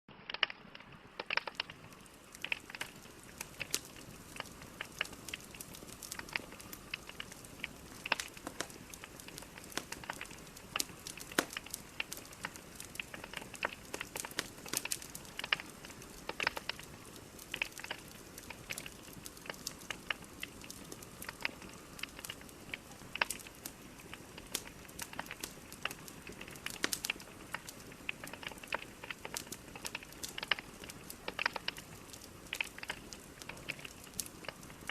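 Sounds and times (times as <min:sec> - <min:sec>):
fire crackling and popping: 0:00.1 - 0:34.9
wood fire hissing: 0:00.3 - 0:34.9.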